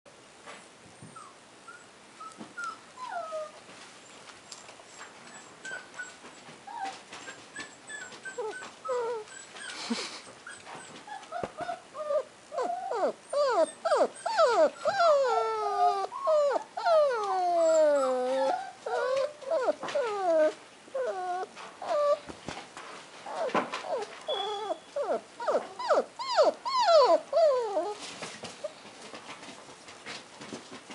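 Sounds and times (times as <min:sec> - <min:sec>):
puppy whimpering and whining: 0:01.1 - 0:03.6, 0:04.6 - 0:22.3, 0:23.3 - 0:28.8.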